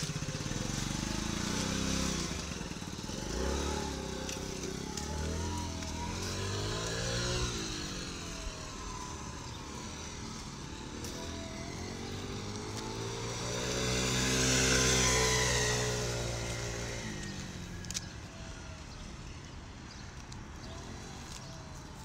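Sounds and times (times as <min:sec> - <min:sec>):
motor scooter passing by: 0:00.0 - 0:19.1.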